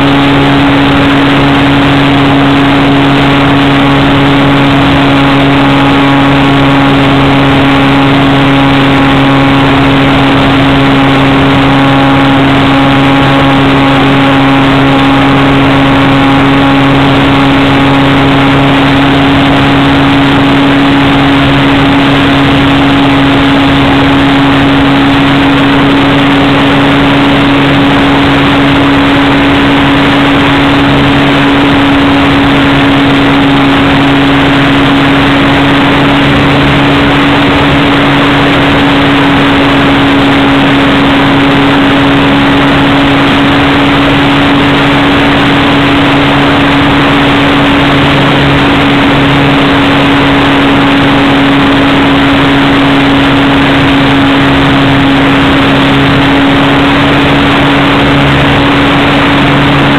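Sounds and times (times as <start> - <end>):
airflow rushing: 0.0 - 59.9
model plane motor running: 0.0 - 59.9.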